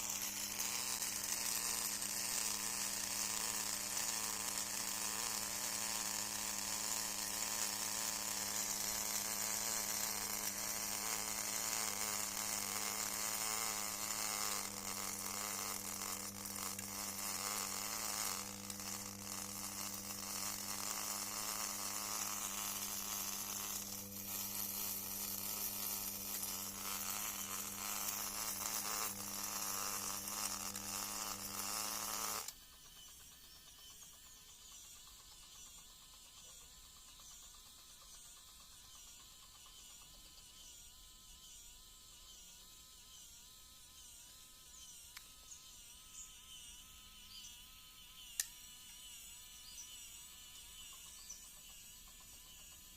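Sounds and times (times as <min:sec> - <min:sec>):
small electric motor humming: 0:00.0 - 0:52.9.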